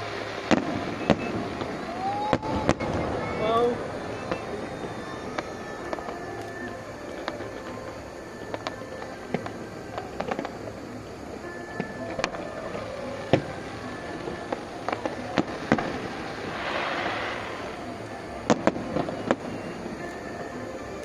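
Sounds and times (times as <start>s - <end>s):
fireworks bangs: 0.0s - 21.0s
fireworks crackling hiss: 0.0s - 21.0s.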